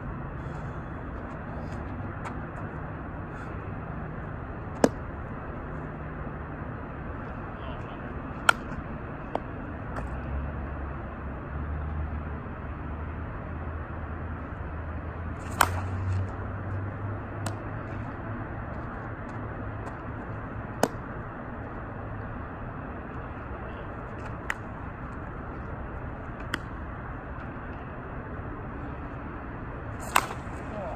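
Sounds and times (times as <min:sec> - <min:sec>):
low hum: 0:00.0 - 0:30.9.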